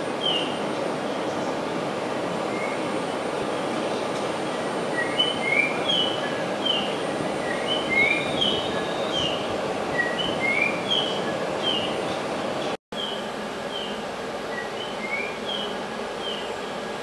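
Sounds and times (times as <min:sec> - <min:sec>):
train humming: 0:00.0 - 0:17.0.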